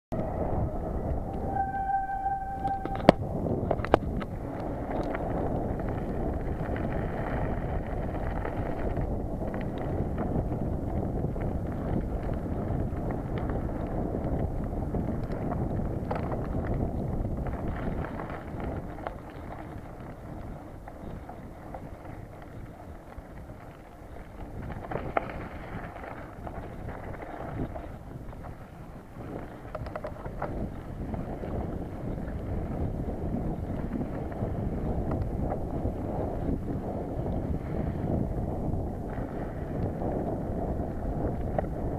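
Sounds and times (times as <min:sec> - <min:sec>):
wind buffeting microphone: 0:00.1 - 0:41.9
bike tyres rumbling on wet asphalt: 0:03.3 - 0:41.9.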